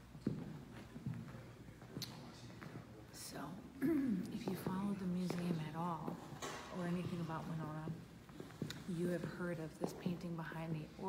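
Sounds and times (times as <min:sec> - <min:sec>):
footsteps on hardwood floor: 0:00.0 - 0:02.8, 0:04.3 - 0:11.0.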